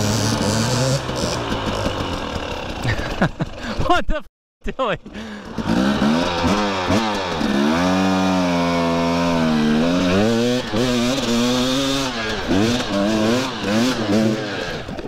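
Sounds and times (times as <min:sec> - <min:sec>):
dirt bike engine revving: 0:00.0 - 0:03.7, 0:05.0 - 0:15.0.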